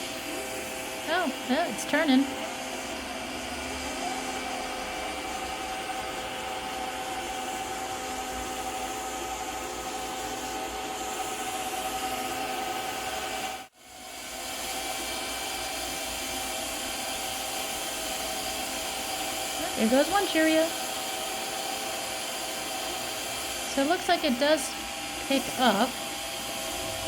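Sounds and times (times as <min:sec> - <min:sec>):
robot vacuum cleaner whirring: 0:00.0 - 0:27.0.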